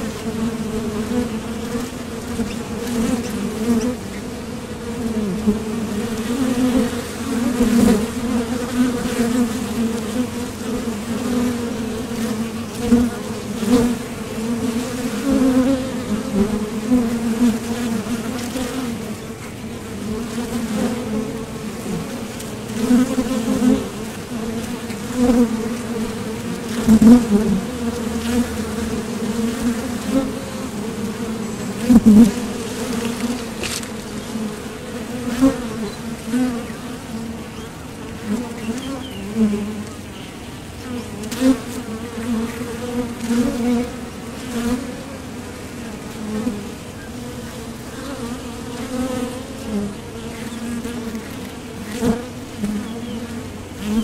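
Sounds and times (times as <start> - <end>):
honeybees buzzing: 0.0 - 54.0.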